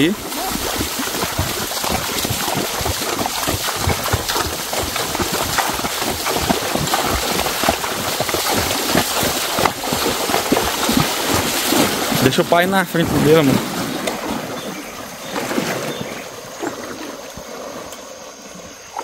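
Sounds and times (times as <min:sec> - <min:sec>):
floodwater rushing: 0:00.0 - 0:19.0
water splashing: 0:00.0 - 0:19.0.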